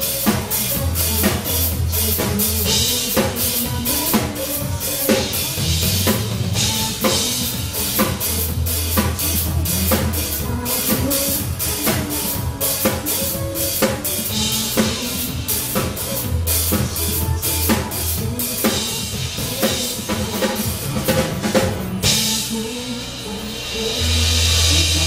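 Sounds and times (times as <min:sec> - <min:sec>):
drum kit playing: 0:00.0 - 0:25.0
pop backing track with bass line: 0:00.0 - 0:25.0.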